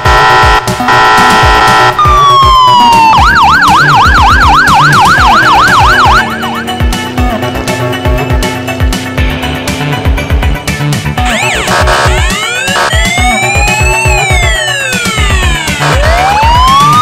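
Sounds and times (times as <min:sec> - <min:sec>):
police siren: 0:00.0 - 0:17.0
upbeat background music: 0:00.0 - 0:17.0.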